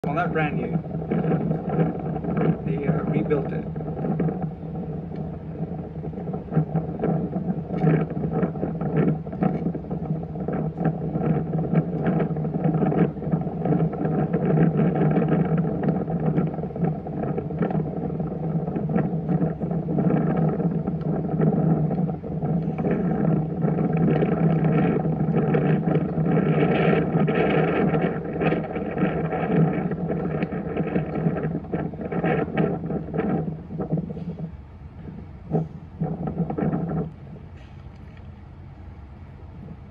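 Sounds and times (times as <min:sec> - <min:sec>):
motor humming: 0:00.0 - 0:38.6.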